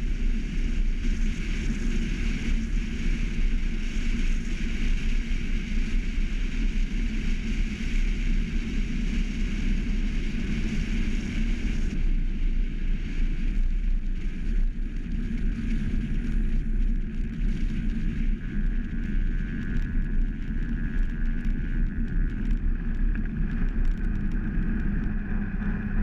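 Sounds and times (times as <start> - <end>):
road rumble on asphalt: 0.0 - 26.0
wind rushing over microphone: 0.0 - 26.0.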